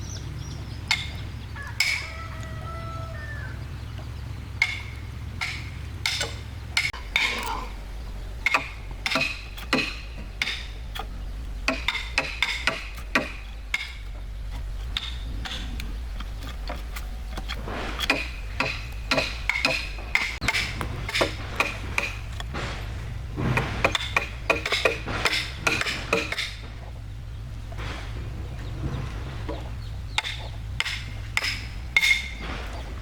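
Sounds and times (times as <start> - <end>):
steady low hum: 0.0 - 33.0
tools tapping and knocking wood: 0.8 - 2.5, 3.9 - 33.0.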